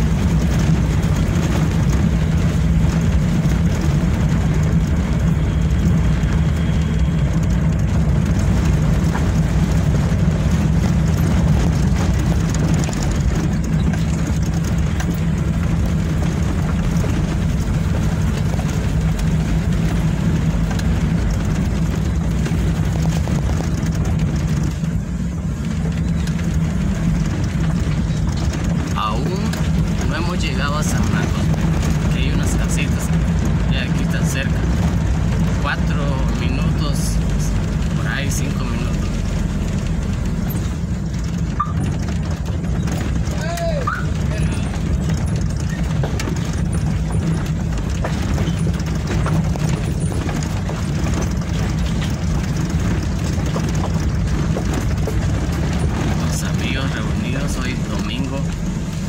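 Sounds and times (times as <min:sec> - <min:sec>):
vehicle engine humming: 0:00.0 - 0:59.0
wind and road noise: 0:00.0 - 0:59.0.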